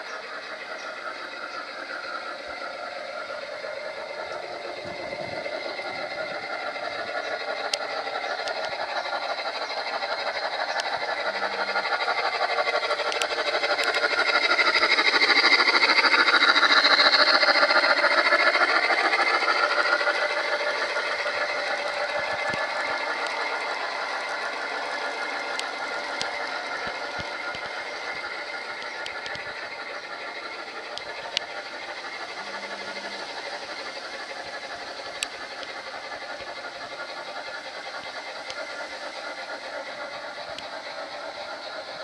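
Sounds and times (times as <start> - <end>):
model train rattling and whirring: 0.0 - 42.0.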